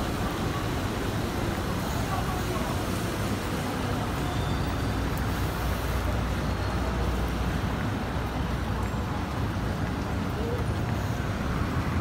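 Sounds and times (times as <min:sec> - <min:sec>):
low rumble of road traffic: 0:00.0 - 0:12.0
tyres hissing on wet road: 0:00.0 - 0:12.0.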